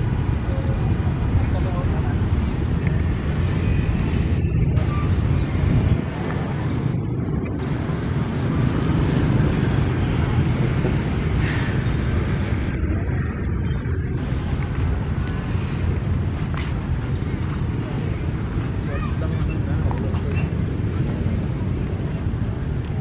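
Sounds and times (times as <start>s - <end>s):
low rumbling outdoor ambience: 0.0s - 23.0s.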